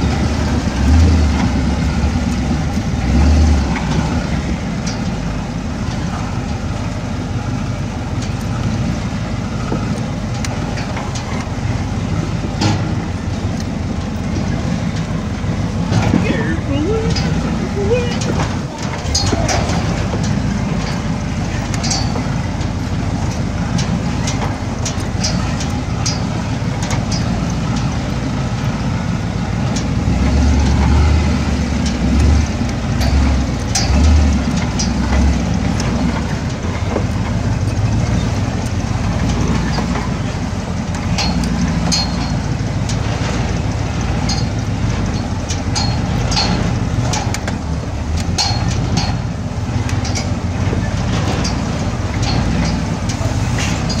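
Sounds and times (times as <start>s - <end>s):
deep rumble: 0.0s - 54.0s
engine running at low speed: 0.0s - 54.0s.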